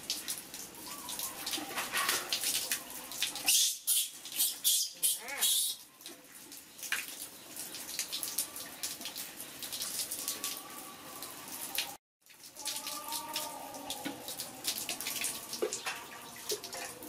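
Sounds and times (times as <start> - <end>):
water splashing in steel basin: 0.0 - 11.0, 11.6 - 17.0.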